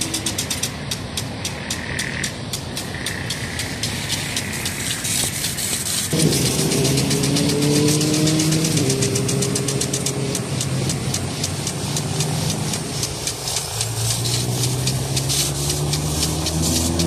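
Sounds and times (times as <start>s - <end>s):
sprinkler arm ticking: 0.0s - 17.0s
water spray hissing: 0.0s - 17.0s.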